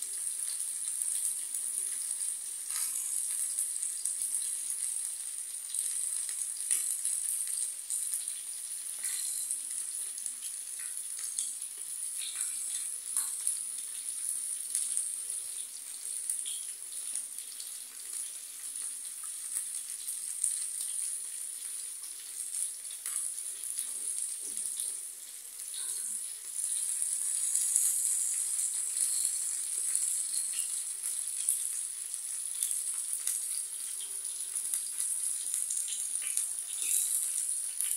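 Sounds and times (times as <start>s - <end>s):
steaks sizzling in hot fat: 0.0s - 37.9s.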